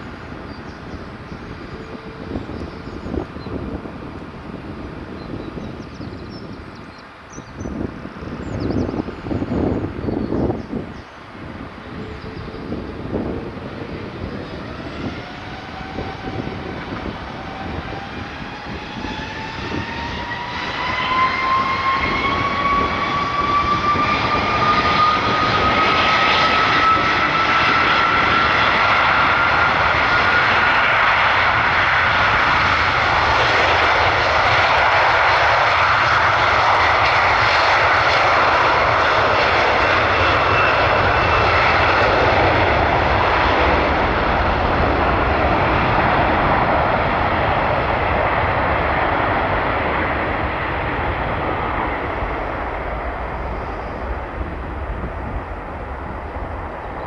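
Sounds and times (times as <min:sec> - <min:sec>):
jet engines spooling up and roaring: 0:00.0 - 0:57.0.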